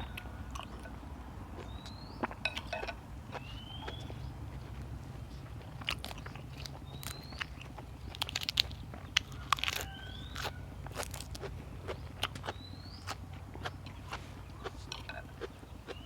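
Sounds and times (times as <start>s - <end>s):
crunchy chewing of raw vegetables: 0.0s - 16.0s.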